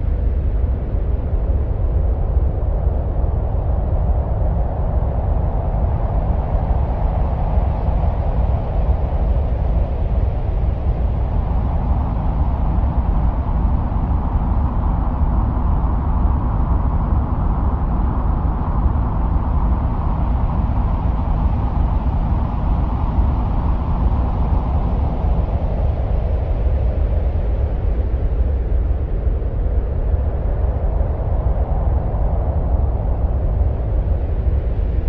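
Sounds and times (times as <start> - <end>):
deep wind-like rumble: 0.0 - 35.0.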